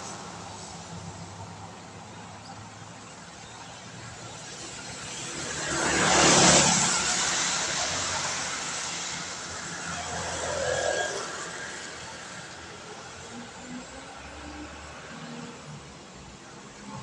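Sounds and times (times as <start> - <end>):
tyres hissing on wet road: 0.0 - 17.0.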